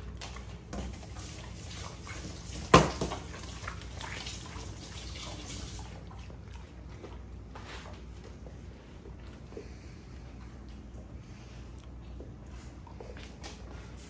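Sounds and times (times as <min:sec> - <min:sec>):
dogs licking and lapping: 0:00.0 - 0:14.0.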